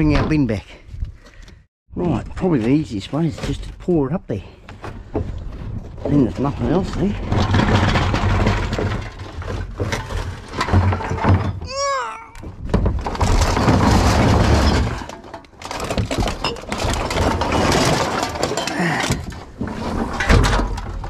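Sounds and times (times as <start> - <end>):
rubbish clattering: 2.1 - 21.0.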